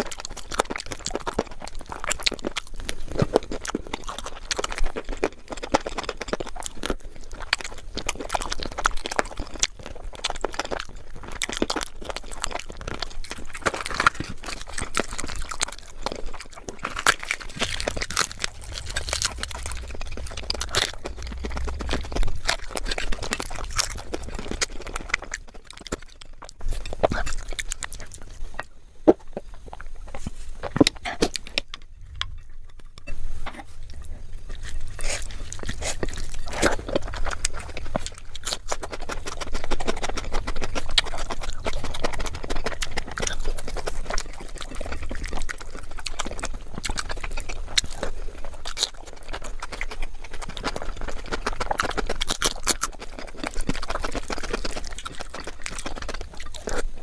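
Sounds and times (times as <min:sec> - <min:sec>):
wet chewing and mouth smacks: 0:00.0 - 0:57.0.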